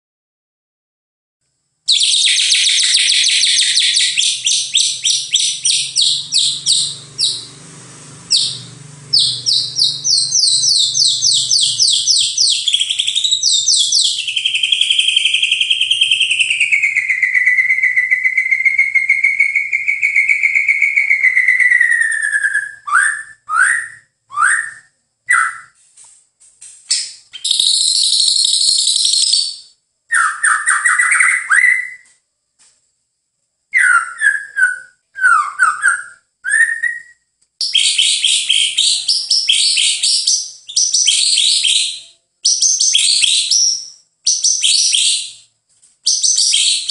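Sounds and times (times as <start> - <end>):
songbird singing whistles: 1.9 - 7.6, 8.3 - 25.8, 26.9 - 32.2, 33.7 - 46.9.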